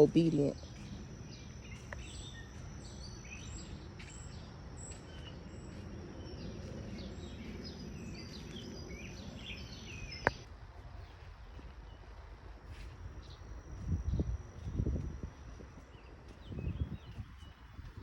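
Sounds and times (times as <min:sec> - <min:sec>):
small birds chirping: 0:00.0 - 0:10.4, 0:13.2 - 0:18.0
low outdoor rumble: 0:00.0 - 0:18.0.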